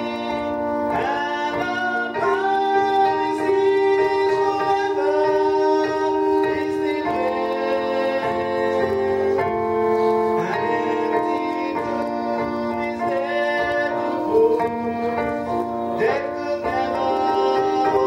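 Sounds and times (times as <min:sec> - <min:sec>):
instrumental accompaniment: 0:00.0 - 0:18.0
man singing gospel into microphone: 0:00.0 - 0:18.0.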